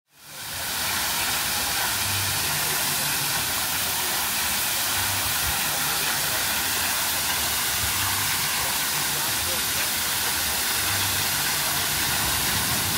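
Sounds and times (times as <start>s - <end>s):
water rushing down slide: 0.2s - 12.9s.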